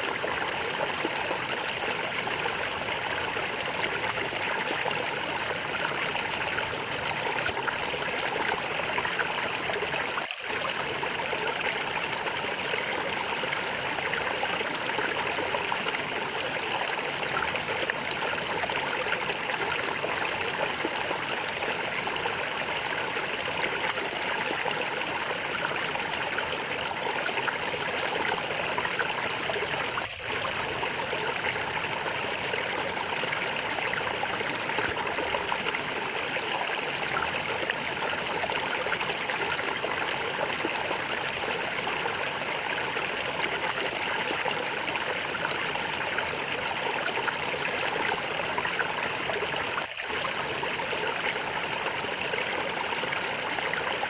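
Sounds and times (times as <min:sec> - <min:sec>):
stream gurgling and trickling: 0:00.0 - 0:54.0.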